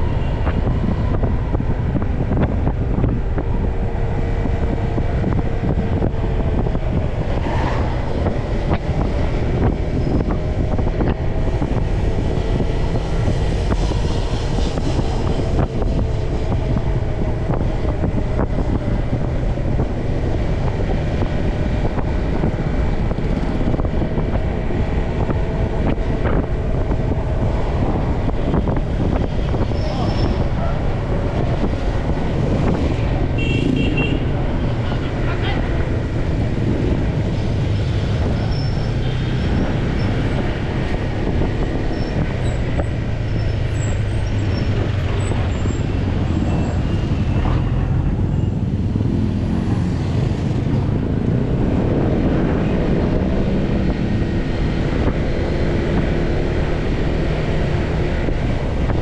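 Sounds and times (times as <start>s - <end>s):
passing traffic: 0.0s - 59.0s
wind rumble on microphone: 0.0s - 59.0s.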